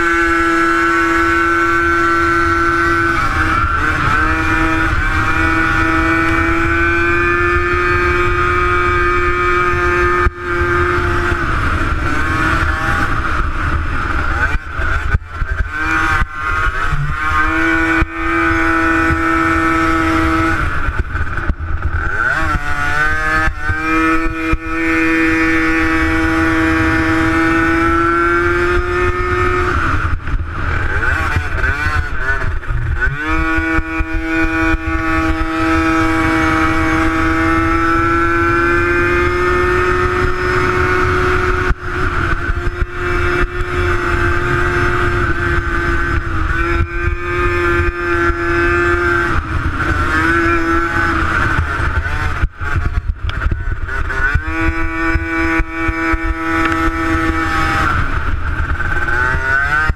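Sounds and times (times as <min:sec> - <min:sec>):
quad engine high-pitched drone: 0:00.0 - 0:59.9.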